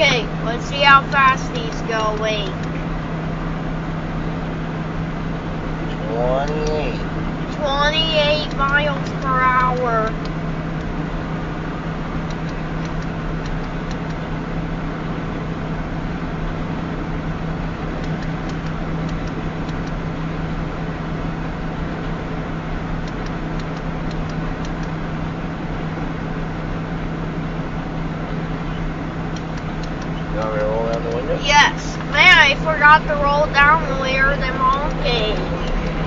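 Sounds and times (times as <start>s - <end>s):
car road and engine noise: 0.0s - 36.0s.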